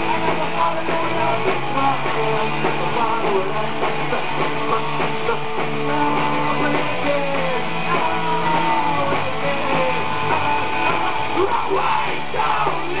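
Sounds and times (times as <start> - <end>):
drums: 0.0 - 13.0
electric guitar: 0.0 - 13.0.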